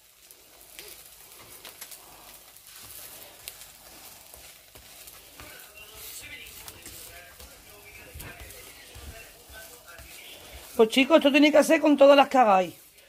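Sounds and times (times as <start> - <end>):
tortillas sizzling in a pan: 0.0 - 13.0.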